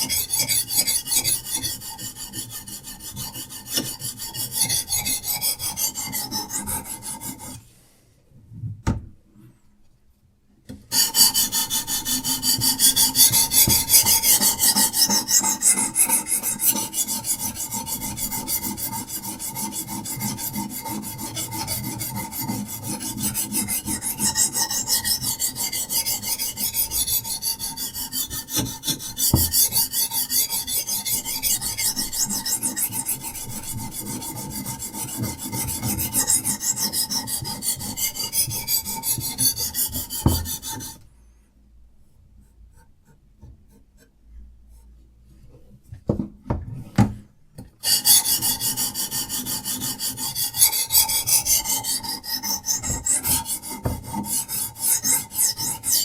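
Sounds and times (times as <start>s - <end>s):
sharpening stone scraping knife: 0.0s - 7.6s, 10.9s - 41.0s, 47.8s - 56.0s.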